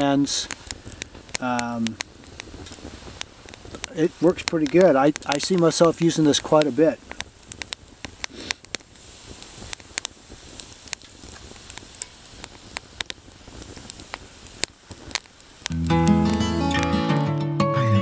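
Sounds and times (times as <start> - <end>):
low steady hiss: 0.0 - 17.2
wood fire crackling and popping: 0.0 - 17.4.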